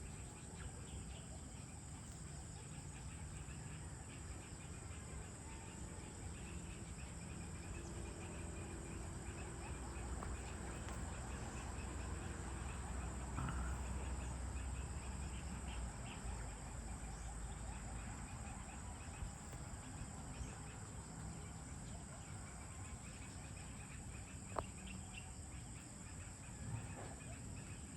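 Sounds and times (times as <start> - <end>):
birds and fowl calling: 0.0 - 27.9.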